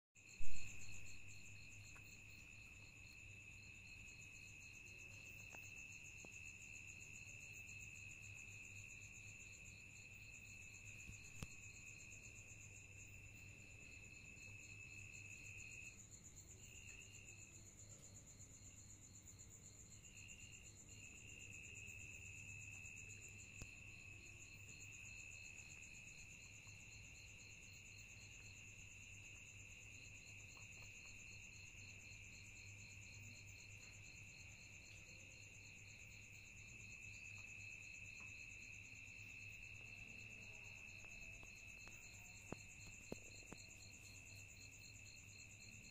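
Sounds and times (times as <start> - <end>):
night insects chirring: 0.2 - 45.9.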